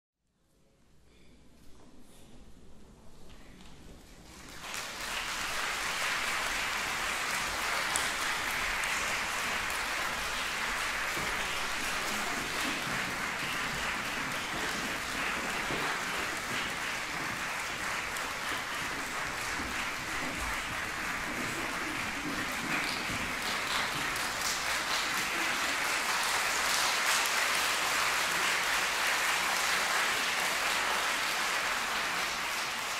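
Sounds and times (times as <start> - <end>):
audience applauding: 4.2 - 32.9.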